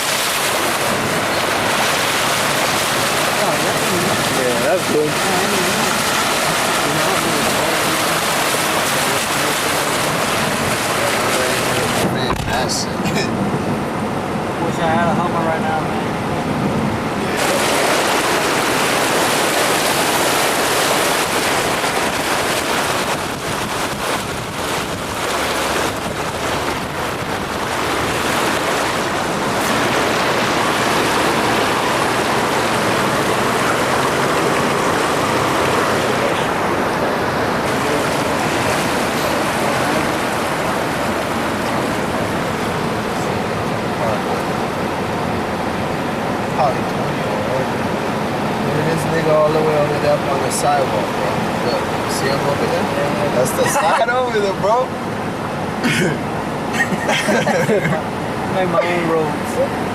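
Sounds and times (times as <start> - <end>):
car driving through floodwater: 0.0 - 59.9.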